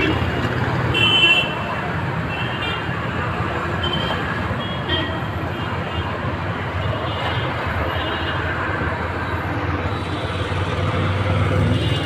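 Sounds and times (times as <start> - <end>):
city traffic noise: 0.0 - 12.0.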